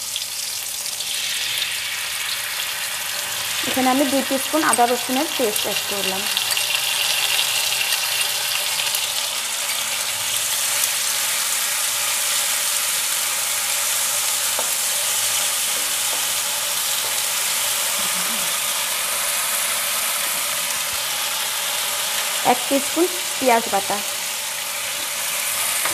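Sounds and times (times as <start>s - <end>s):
food frying in hot oil: 0.0s - 25.9s.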